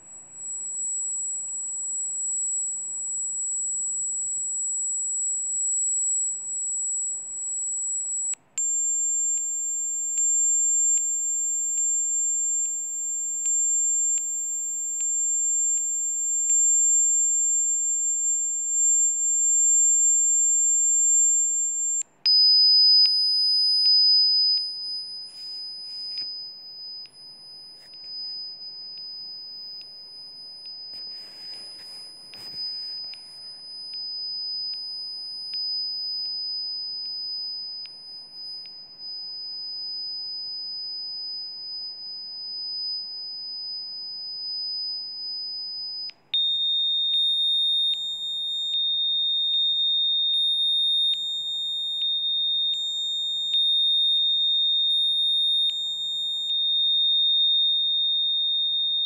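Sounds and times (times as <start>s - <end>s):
high-pitched electronic sine tone: 0.0s - 59.0s.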